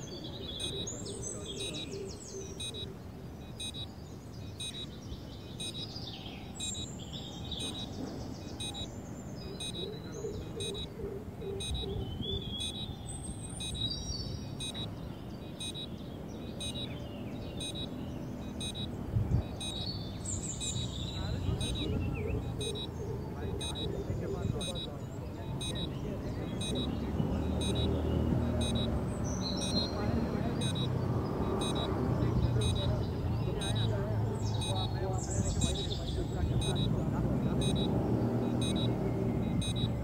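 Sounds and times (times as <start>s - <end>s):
birds chirping and whistling: 0.0s - 40.0s
steady outdoor noise: 0.0s - 40.0s.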